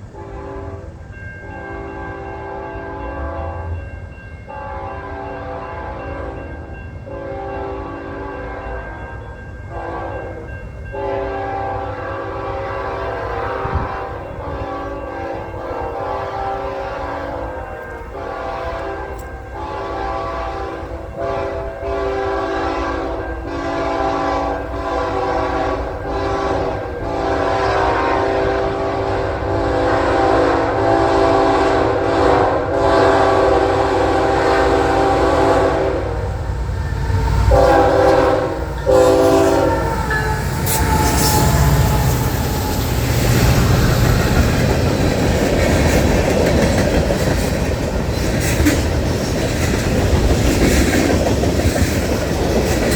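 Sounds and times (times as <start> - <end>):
train horn blasts: 0.0 - 3.8, 4.5 - 47.4
train rumble and wheel clatter: 0.0 - 52.9.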